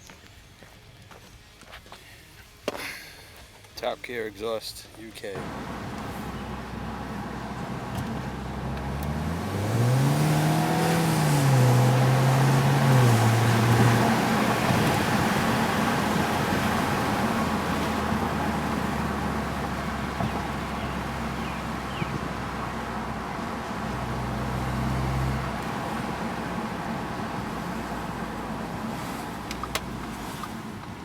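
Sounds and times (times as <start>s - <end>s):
car engine running: 5.4s - 31.0s.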